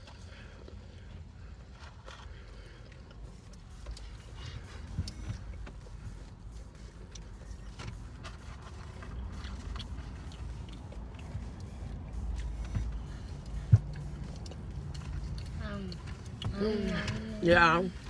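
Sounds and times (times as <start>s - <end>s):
low background rumble: 0.0s - 18.0s
peanuts being chewed: 1.8s - 18.0s.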